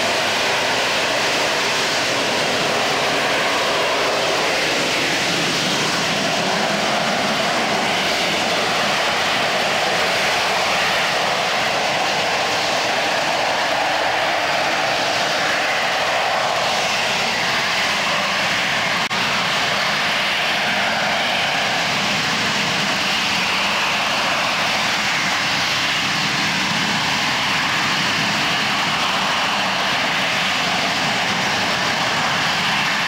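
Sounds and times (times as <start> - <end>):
jet engine roar: 0.0 - 33.0.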